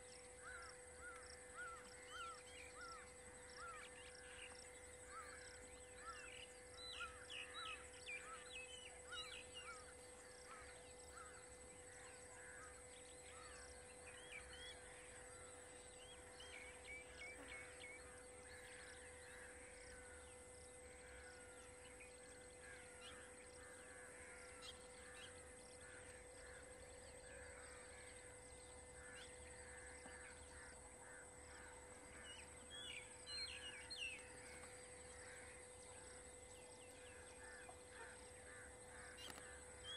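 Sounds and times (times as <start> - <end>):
faint steady hum: 0.0 - 39.9
wild birds chirping: 0.0 - 39.9.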